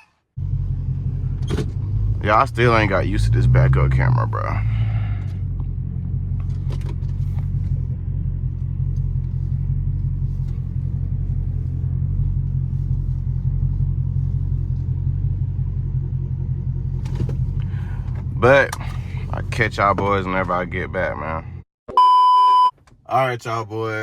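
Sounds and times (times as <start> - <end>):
car engine idling: 0.4 - 21.6.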